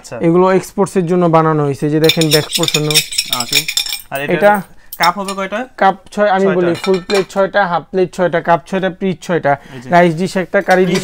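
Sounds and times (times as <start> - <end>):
man talking: 0.0 - 11.0.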